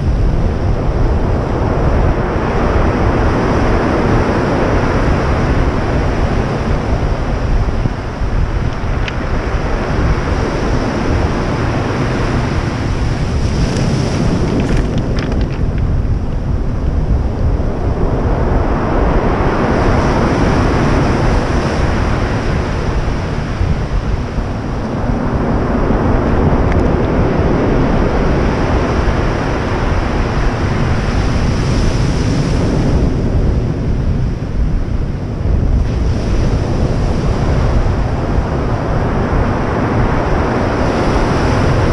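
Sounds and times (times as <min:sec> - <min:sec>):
wind on microphone: 0:00.0 - 0:41.9
ocean surf breaking: 0:00.2 - 0:41.9.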